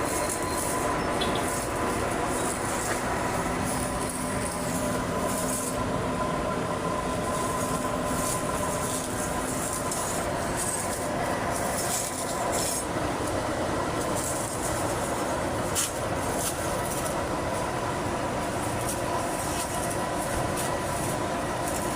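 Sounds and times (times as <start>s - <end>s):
vehicle whine: 0.0s - 21.9s.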